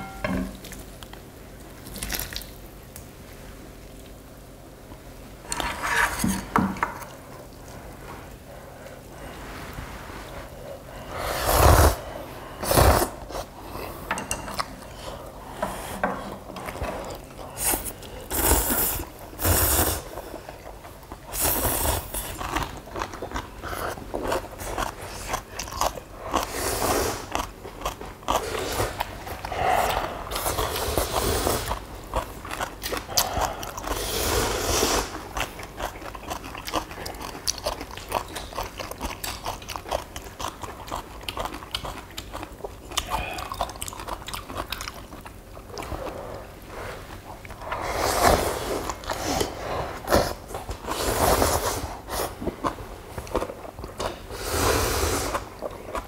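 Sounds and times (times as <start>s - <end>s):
crunching and chewing: 0.6s - 3.1s, 11.6s - 54.4s, 55.2s - 56.0s.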